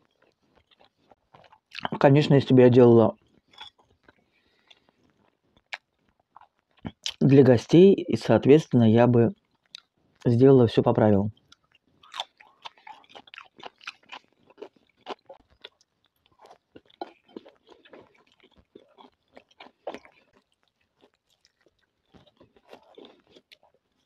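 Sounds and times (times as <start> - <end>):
person chewing crunchy food: 0.0 - 7.2, 9.3 - 10.3, 11.3 - 24.0.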